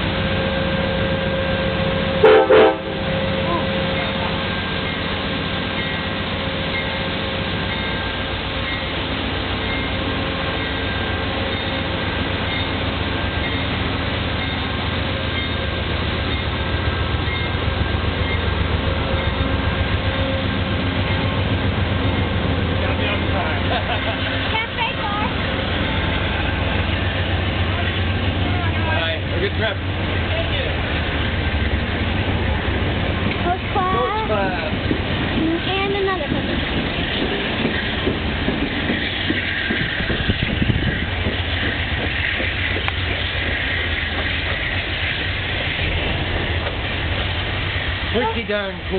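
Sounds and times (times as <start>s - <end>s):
diesel locomotive throbbing: 0.0s - 48.9s
train wheels rumbling on rails: 0.0s - 48.9s.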